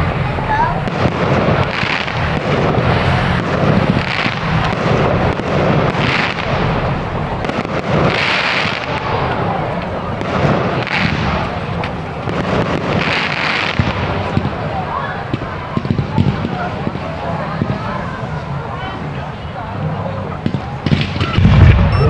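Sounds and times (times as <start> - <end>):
hissing firework crackle: 0.0 - 18.8, 19.5 - 21.9
firework bangs and crackles: 0.0 - 22.0.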